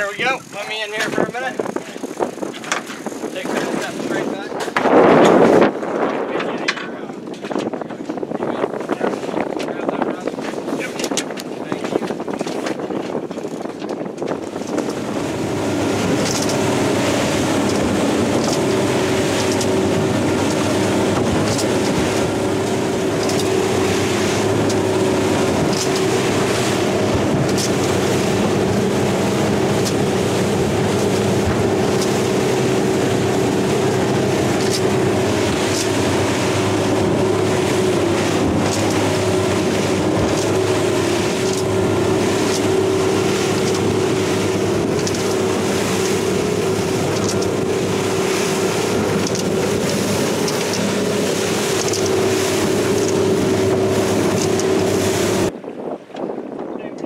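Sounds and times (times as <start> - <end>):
outboard motors droning: 0.0 - 57.0
water rushing in boat wake: 0.0 - 57.0.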